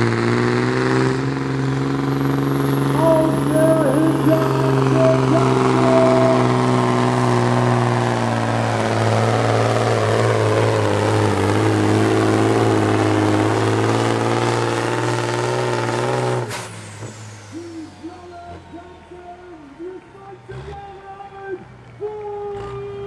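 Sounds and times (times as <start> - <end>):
diesel truck engine under heavy load: 0.0 - 23.0.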